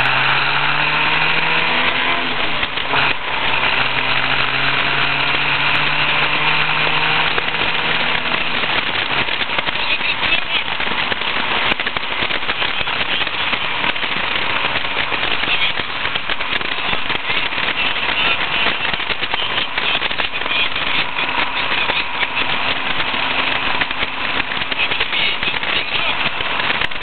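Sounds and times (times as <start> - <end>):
car engine: 0.0 - 27.0
road noise: 0.0 - 27.0
rushing wind: 0.0 - 27.0.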